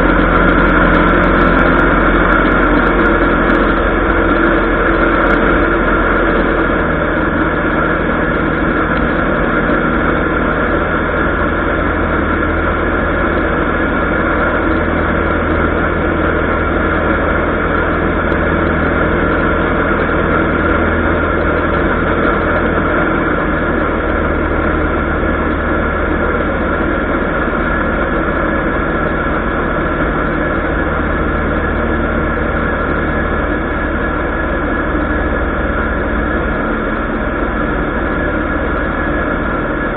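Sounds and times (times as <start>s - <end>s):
aircraft engine and propeller hum: 0.0s - 39.9s.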